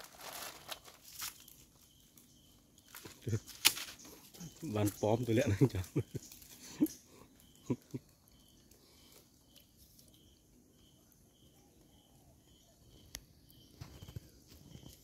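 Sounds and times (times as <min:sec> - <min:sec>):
faint high chirp: 0:00.4 - 0:15.0.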